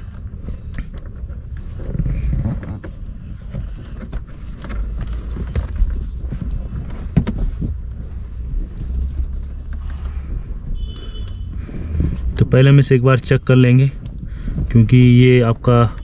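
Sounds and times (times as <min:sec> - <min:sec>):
hands clicking and knocking on wiring: 0:00.0 - 0:12.6, 0:13.4 - 0:16.0
low steady rumble: 0:00.0 - 0:16.0.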